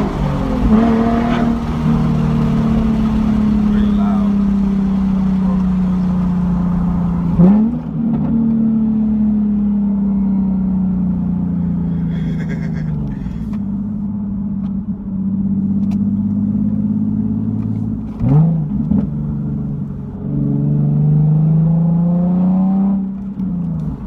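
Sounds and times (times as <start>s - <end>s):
car engine exhaust revving: 0.0s - 24.0s.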